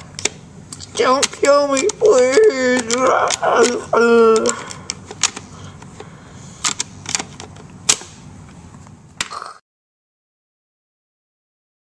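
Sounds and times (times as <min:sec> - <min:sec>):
low room noise: 0:00.0 - 0:09.6.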